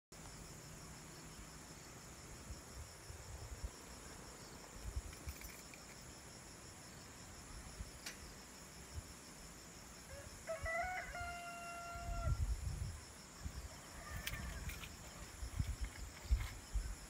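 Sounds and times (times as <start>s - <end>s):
insects chorus pulsing: 0.2s - 17.0s.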